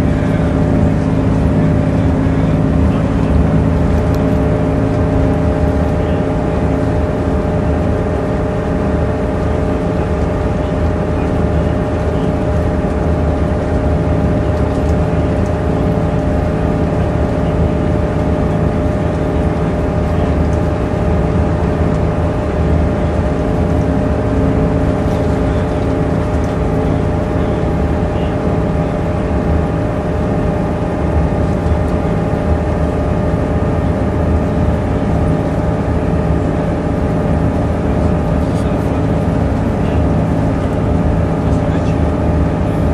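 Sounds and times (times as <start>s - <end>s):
bus engine drone: 0.0s - 42.9s
drivetrain whine: 0.0s - 42.9s.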